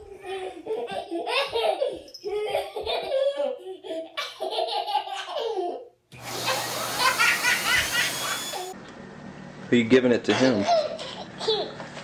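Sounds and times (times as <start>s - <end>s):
child laughing: 0.0s - 8.8s, 10.4s - 11.8s.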